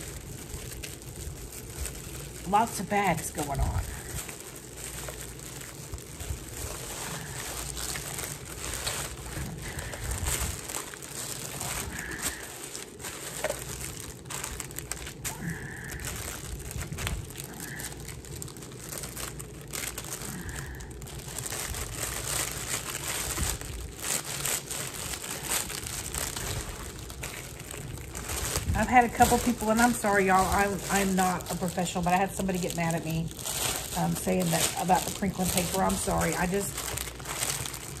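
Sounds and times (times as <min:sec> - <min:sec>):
plastic bags crinkling: 0:00.0 - 0:38.0.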